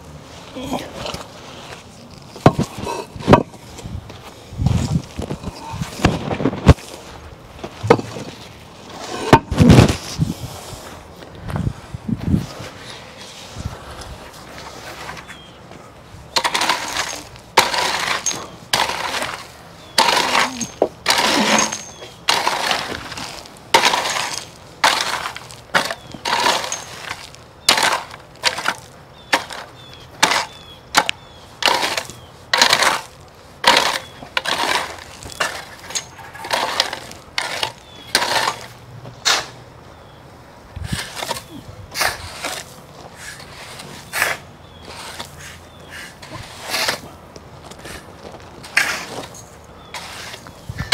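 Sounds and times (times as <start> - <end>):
hand tools scraping through gravel: 0.2 - 11.0, 11.6 - 15.5, 16.3 - 39.6, 40.8 - 50.9.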